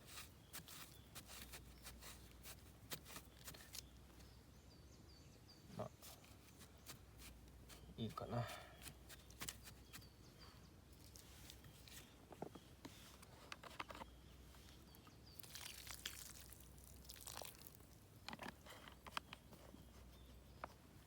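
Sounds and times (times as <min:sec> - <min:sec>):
rustle: 0:00.0 - 0:04.4, 0:05.7 - 0:21.0.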